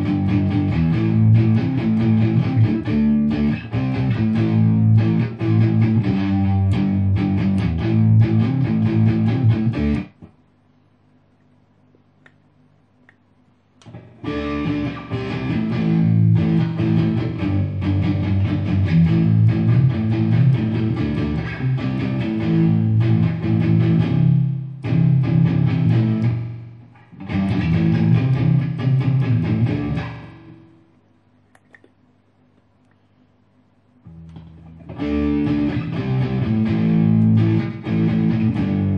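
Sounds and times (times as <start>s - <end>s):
electric guitar with delay: 0.0s - 10.2s, 14.2s - 30.8s, 34.1s - 38.9s.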